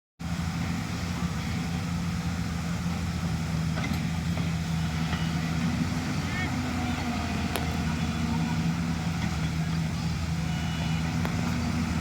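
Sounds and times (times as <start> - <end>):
diesel engine running: 0.2 - 12.0.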